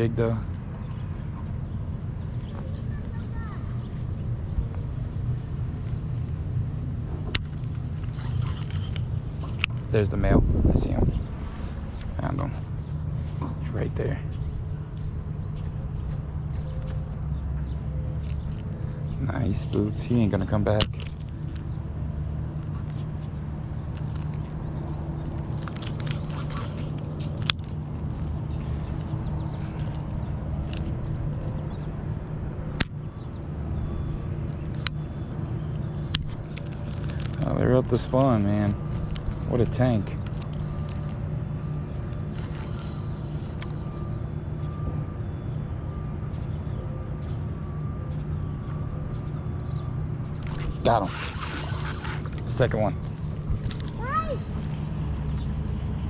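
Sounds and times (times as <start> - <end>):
low outdoor rumble: 0.0 - 56.0.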